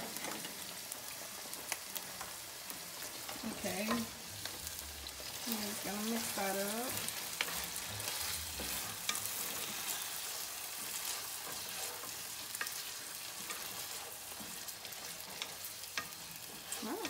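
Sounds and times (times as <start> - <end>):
meat sizzling in a skillet: 0.0 - 17.0
spatula clicking and scraping pan: 0.1 - 17.0.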